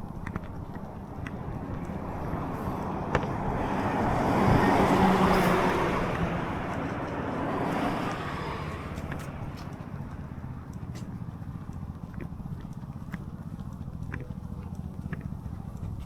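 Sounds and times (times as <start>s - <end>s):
road vehicle passing by: 0.0s - 16.0s.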